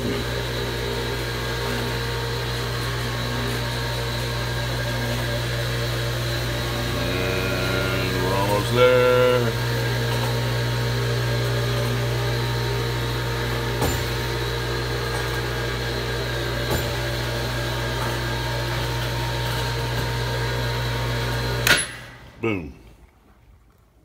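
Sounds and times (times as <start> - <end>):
electric lift motor humming: 0.0 - 22.4.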